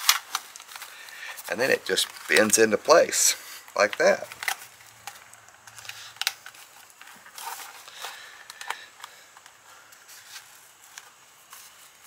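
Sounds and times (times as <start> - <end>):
aluminium insulation crinkling: 0.0 - 12.0.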